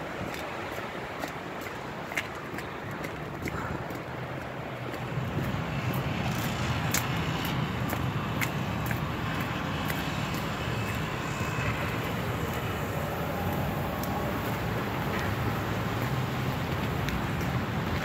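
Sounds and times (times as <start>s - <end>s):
cars driving on slushy road: 0.0s - 18.0s.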